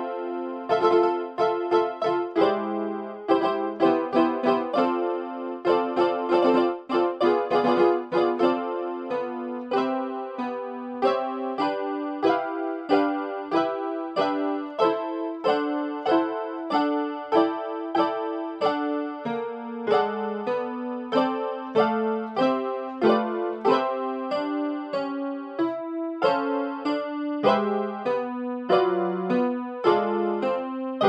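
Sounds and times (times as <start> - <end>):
electronic keyboard piano music: 0.0 - 31.0.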